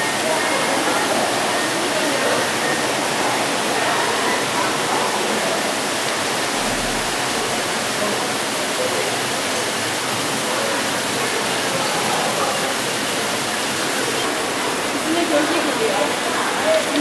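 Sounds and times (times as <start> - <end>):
faint voices: 0.0 - 17.0
water feature rushing: 0.0 - 17.0.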